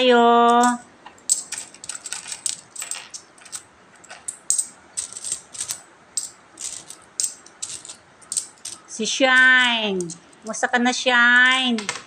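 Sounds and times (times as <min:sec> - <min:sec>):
coins clinking: 0:00.4 - 0:10.6.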